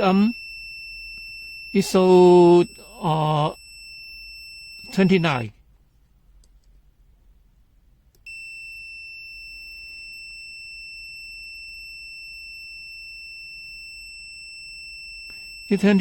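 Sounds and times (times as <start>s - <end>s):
multimeter continuity beep: 0.0s - 5.6s, 8.2s - 16.0s.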